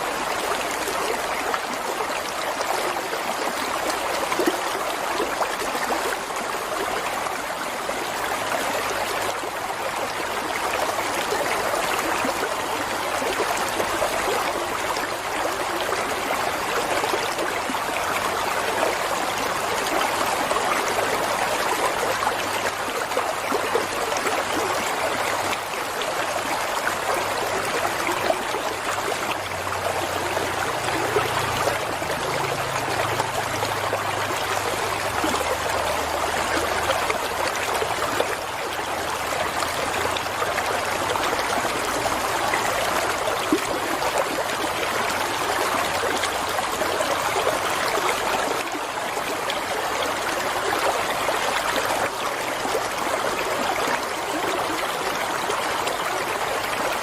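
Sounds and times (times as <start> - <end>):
stream babbling and trickling: 0.0 - 57.0.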